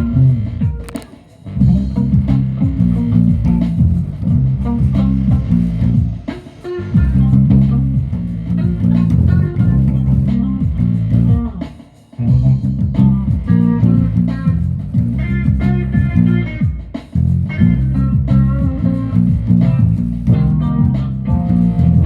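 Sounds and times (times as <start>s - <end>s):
guitar music with bass line: 0.0s - 22.0s.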